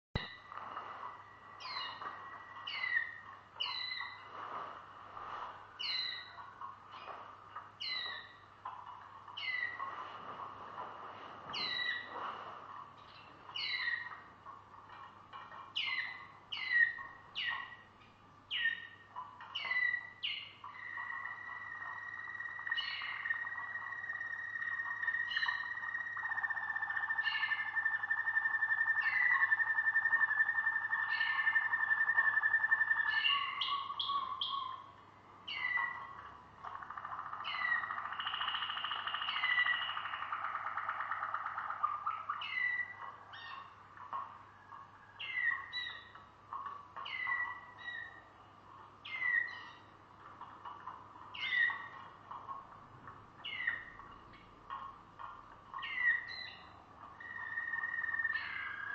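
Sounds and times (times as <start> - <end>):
canary singing: 0.2 - 58.9.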